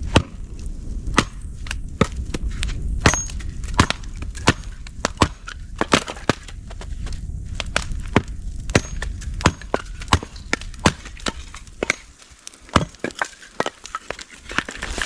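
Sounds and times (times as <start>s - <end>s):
low steady rumble: 0.0s - 12.2s
bonfire crackling and popping: 0.0s - 15.0s.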